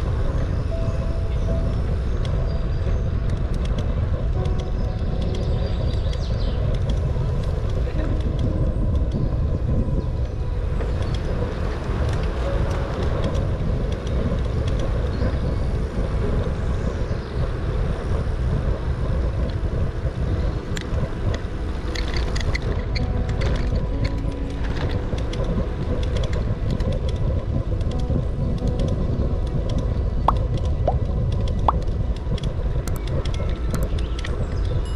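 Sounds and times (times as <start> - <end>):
bicycle tyres on asphalt: 0.0 - 34.9
wind rumbling on microphone: 0.0 - 34.9
sharp high ticks: 0.7 - 34.9.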